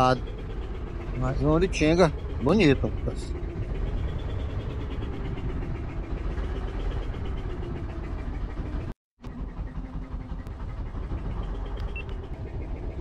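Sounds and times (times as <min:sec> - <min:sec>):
boat engine running at low revs: 0:00.0 - 0:13.0.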